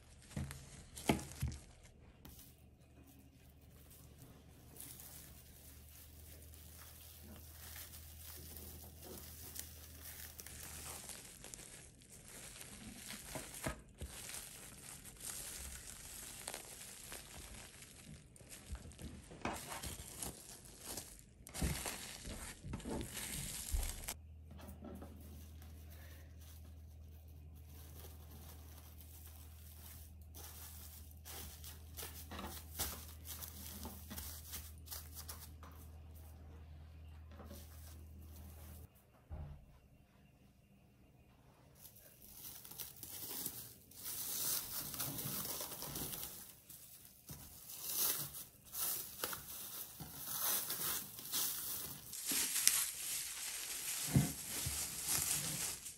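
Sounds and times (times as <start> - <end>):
plastic film crinkling: 0.0 - 24.2, 25.3 - 36.1, 41.8 - 55.9.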